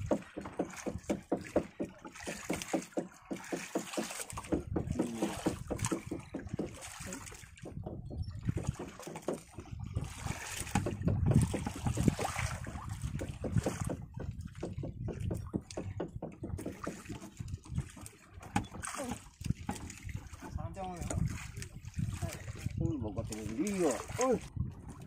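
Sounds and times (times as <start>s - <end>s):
wind on microphone: 0.0s - 0.2s, 4.3s - 25.0s
boat engine thumping: 0.0s - 25.0s.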